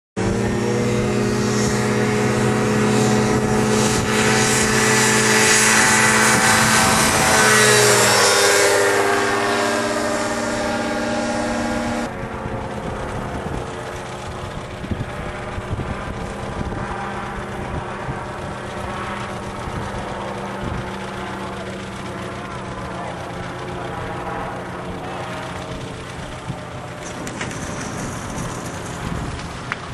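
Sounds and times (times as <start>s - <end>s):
microlight engine and propeller droning: 0.2s - 29.9s
gusty rumbles: 0.4s - 21.0s, 25.6s - 29.9s.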